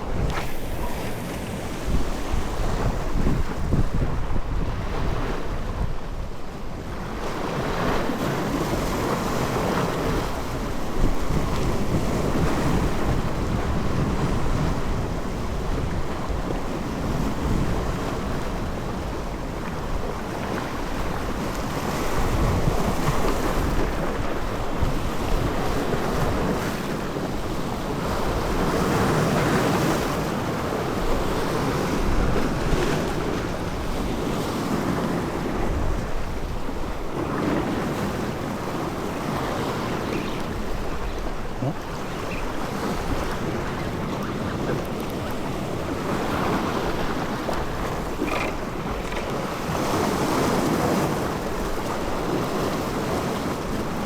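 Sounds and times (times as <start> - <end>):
sea waves washing: 0.0 - 6.0, 6.6 - 54.0
wind buffeting microphone: 0.0 - 54.0.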